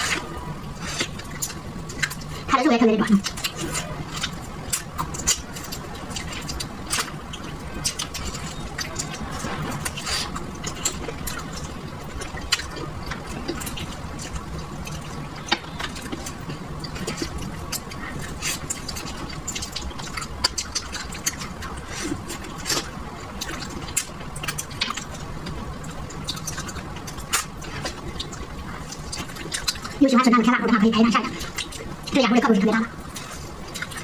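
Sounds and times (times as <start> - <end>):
wet chewing and sucking: 0.0 - 34.0.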